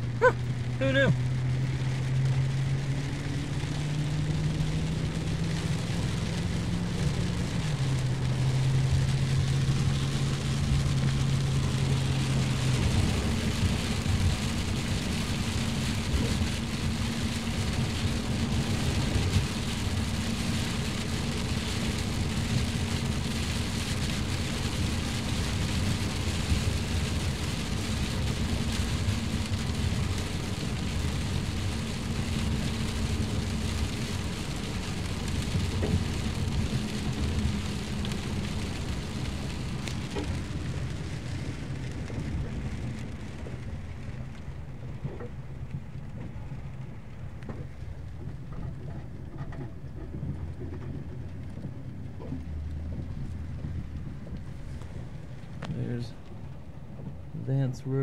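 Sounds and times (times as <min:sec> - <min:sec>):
heavy rain on a car: 0:00.0 - 0:58.0
low engine hum: 0:00.0 - 0:58.0
tyre noise on wet road: 0:00.0 - 0:58.0.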